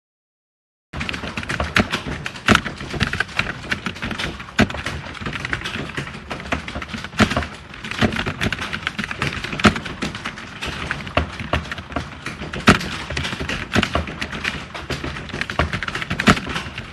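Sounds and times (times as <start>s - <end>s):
fast typing on keyboard: 1.0s - 16.9s.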